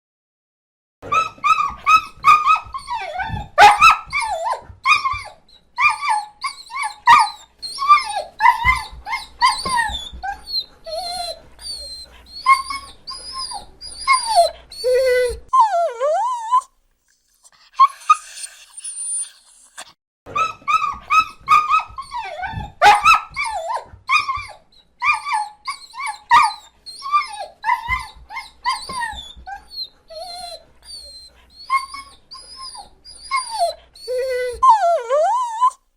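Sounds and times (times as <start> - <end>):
dog whimpering and whining: 1.0 - 16.7, 17.8 - 35.8.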